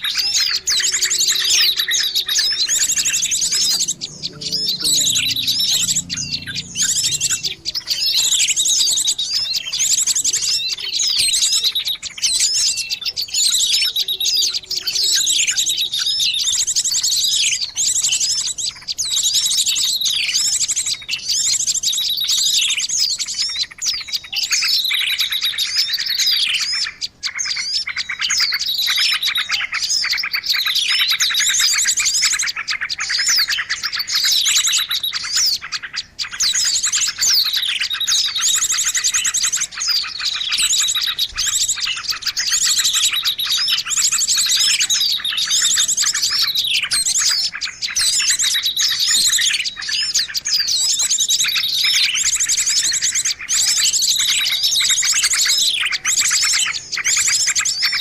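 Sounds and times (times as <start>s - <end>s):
flock of small birds chirping: 0.0s - 58.0s.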